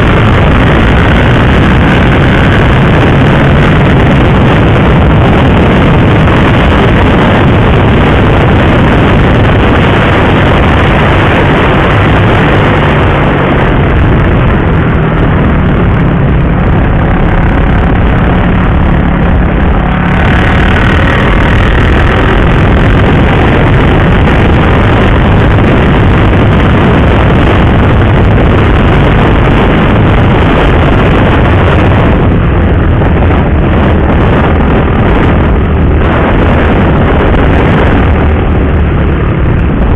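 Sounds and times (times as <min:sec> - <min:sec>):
motorcycle engine running: 0:00.0 - 0:39.9
wind noise rushing: 0:00.0 - 0:39.9.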